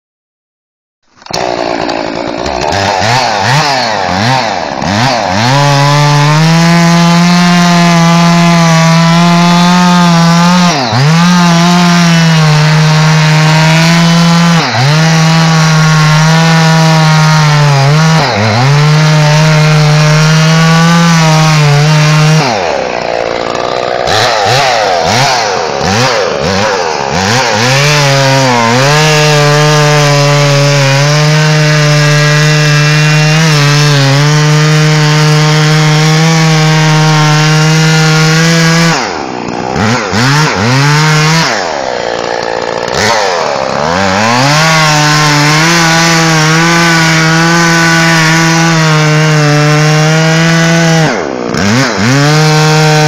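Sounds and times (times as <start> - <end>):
chainsaw revving: 1.2 - 53.0.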